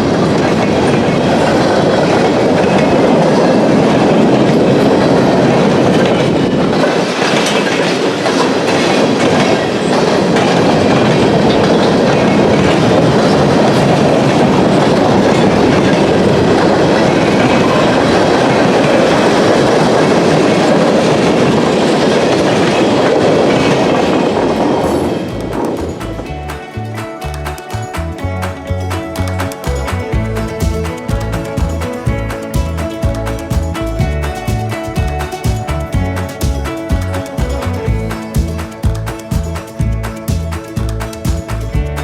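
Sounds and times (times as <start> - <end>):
freight train rolling past: 0.0 - 42.0
wheels clacking over rail joints: 0.0 - 42.0.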